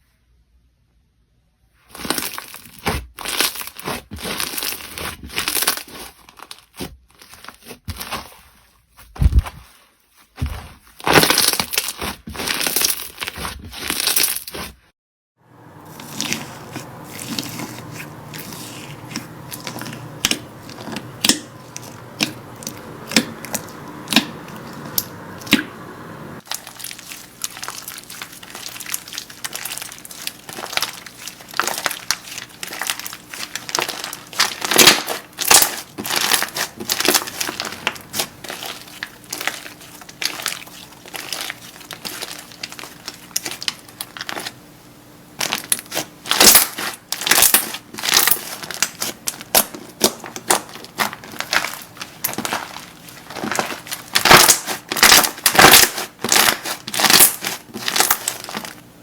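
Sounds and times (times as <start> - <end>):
slime crackling and popping: 2.0 - 8.2, 11.0 - 14.7, 15.7 - 25.6, 26.4 - 44.6, 45.4 - 58.8.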